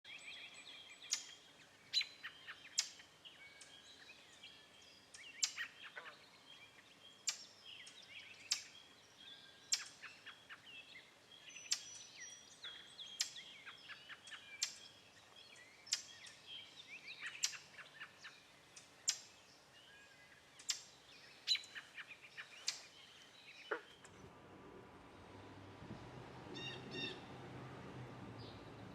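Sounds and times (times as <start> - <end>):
birds twittering softly: 0.0 - 28.9
small birds chirping: 0.1 - 27.4, 28.0 - 28.9.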